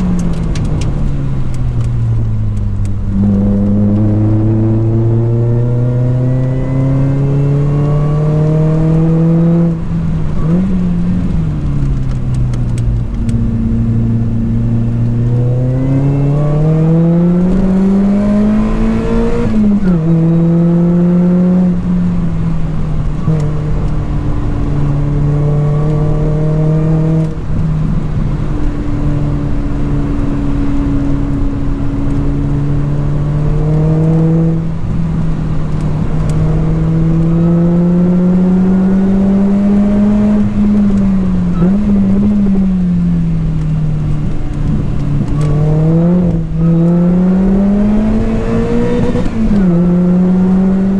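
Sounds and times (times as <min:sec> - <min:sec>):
car engine accelerating: 0:00.0 - 0:50.9.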